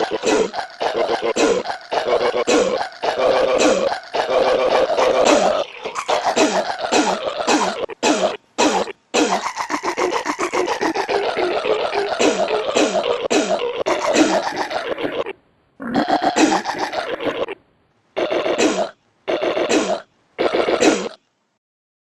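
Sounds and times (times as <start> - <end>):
chopped belching remix: 0.0 - 17.6, 18.2 - 21.2.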